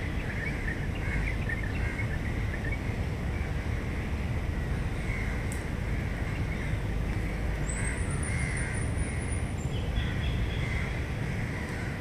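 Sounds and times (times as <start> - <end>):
birds calling: 0.0 - 12.0
low city rumble: 0.0 - 12.0.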